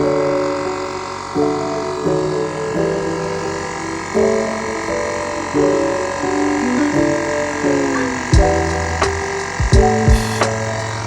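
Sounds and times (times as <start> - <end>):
background music: 0.0 - 11.0
tire inflator buzzing: 0.0 - 11.0.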